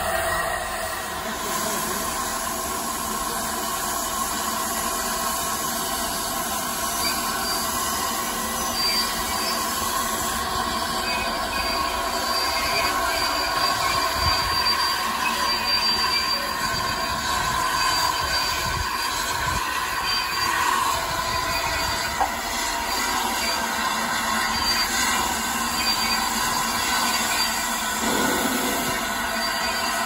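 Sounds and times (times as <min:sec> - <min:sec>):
high wheel squeal: 0:00.0 - 0:30.0
steam locomotive rumbling: 0:00.0 - 0:30.0.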